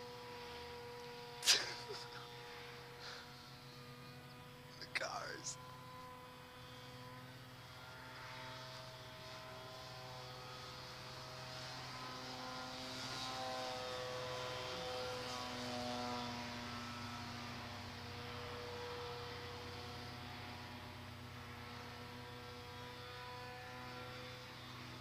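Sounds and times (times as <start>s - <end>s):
model plane motor whining: 0.0s - 25.0s.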